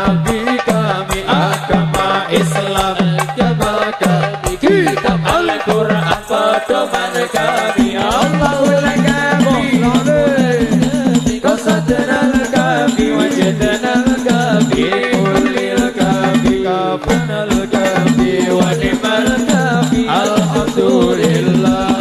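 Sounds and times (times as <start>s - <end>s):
hand drums beating: 0.0s - 22.0s
men singing devotional song: 0.0s - 22.0s.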